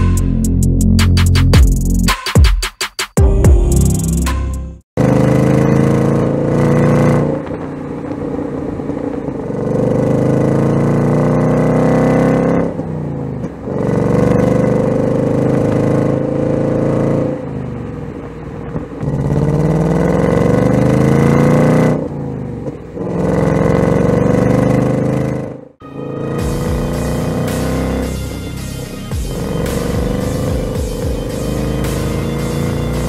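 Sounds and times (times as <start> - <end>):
car engine accelerating hard: 5.0 - 33.0.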